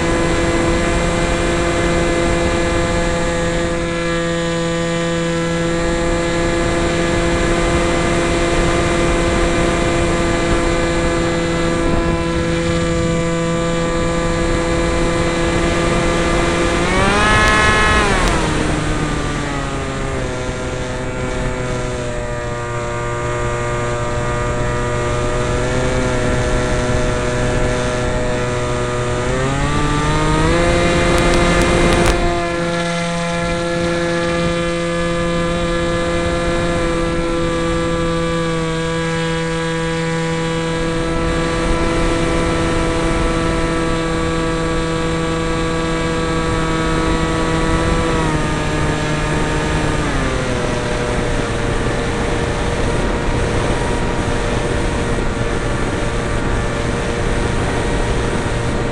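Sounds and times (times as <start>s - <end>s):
model plane motor whine: 0.0s - 58.9s.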